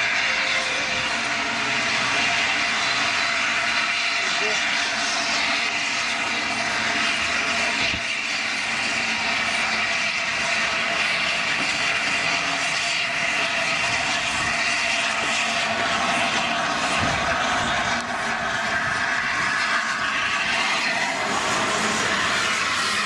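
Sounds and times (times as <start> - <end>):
steam locomotive letting off steam: 0.0 - 23.0.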